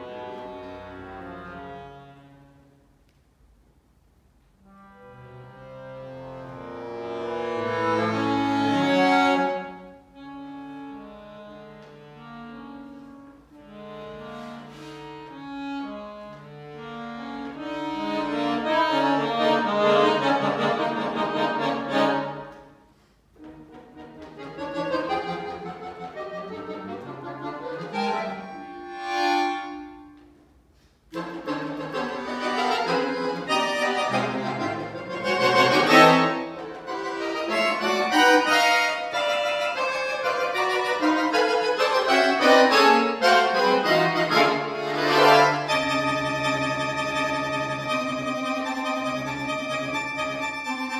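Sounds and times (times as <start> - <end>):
accordion playing: 0.0 - 2.9, 4.6 - 50.9.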